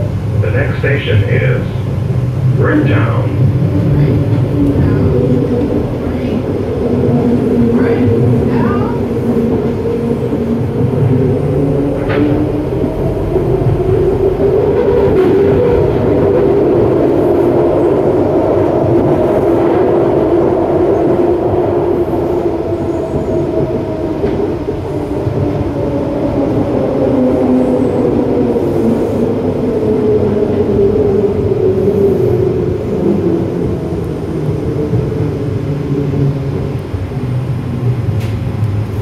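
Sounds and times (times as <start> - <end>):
steel wheels rumbling: 0.0 - 39.0.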